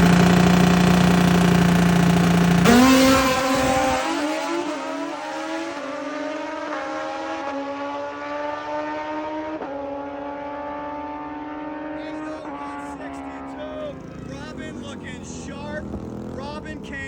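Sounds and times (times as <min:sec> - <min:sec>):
motorcycle engine shifting gears: 0:00.0 - 0:17.0.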